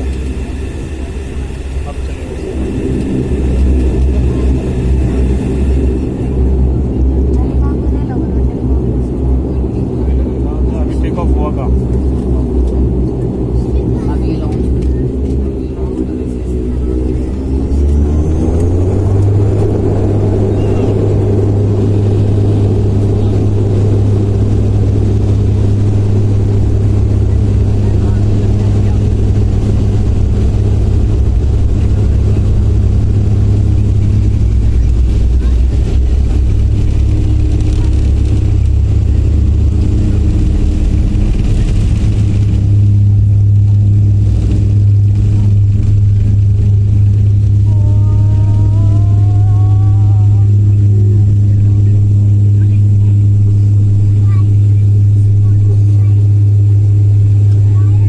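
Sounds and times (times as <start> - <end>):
airliner engines rumbling: 0.0 - 58.0.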